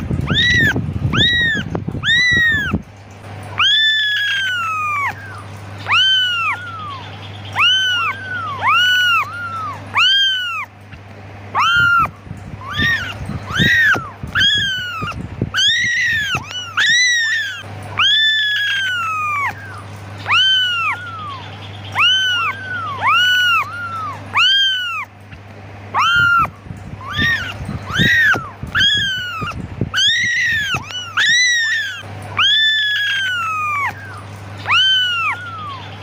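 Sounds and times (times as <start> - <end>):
kittens mewing: 0.0 - 36.0.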